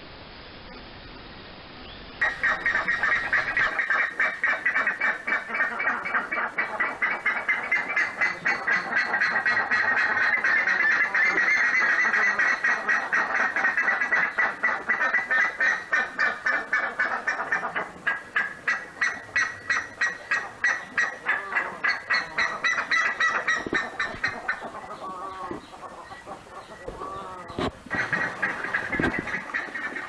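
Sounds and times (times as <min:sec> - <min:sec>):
ibis honking calls: 0:02.2 - 0:30.0.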